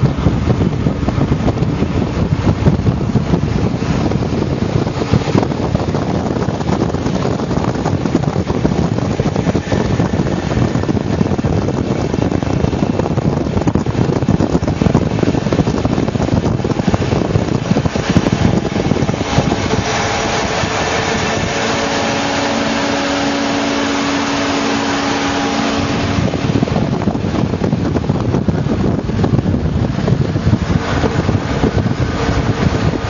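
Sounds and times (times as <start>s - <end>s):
rumble of vehicles driving: 0.0s - 33.0s
wind buffeting microphone: 0.0s - 33.0s.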